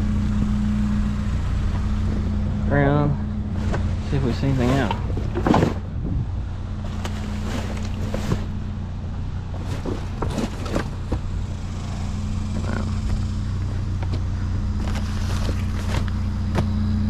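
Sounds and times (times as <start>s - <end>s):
truck engine and road drone: 0.0s - 17.0s.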